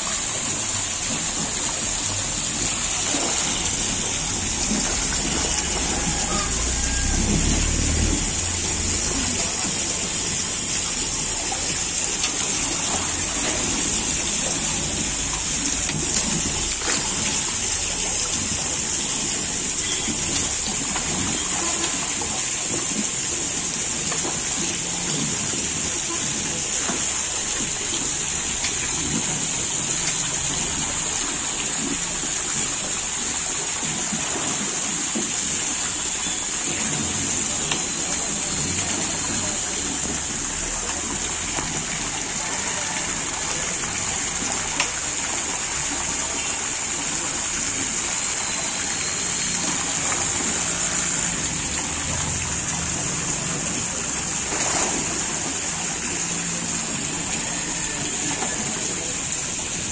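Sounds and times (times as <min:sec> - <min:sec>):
net splashing through water: 0:00.0 - 0:24.6, 0:26.3 - 0:58.7
running water: 0:00.0 - 0:59.9.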